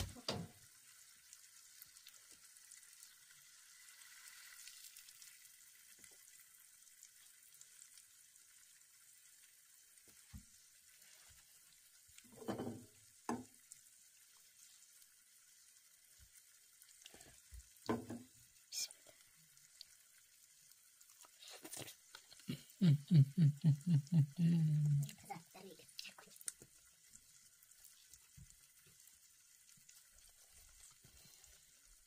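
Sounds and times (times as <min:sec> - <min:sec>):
eggs sizzling in oil: 0:00.0 - 0:32.0.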